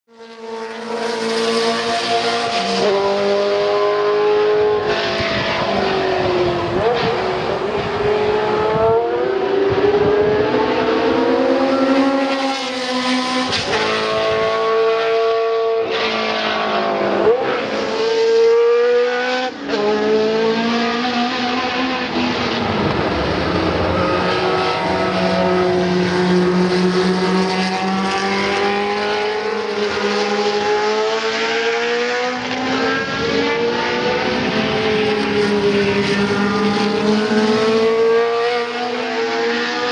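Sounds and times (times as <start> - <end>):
race car engine revving: 0.1 - 39.9.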